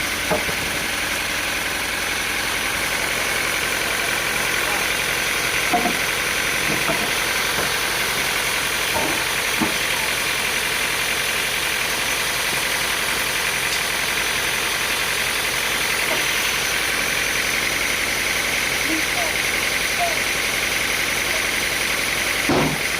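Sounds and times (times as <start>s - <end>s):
sawmill machinery running: 0.0s - 22.9s.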